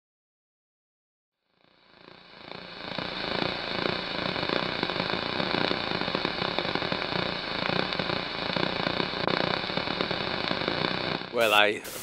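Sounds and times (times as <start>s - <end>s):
tv static hiss: 1.5s - 12.0s.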